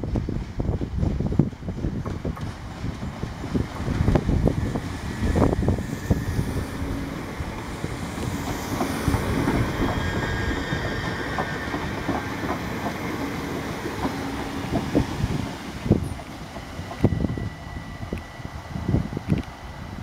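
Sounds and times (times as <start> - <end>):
electric train rumbling past: 0.0 - 20.0.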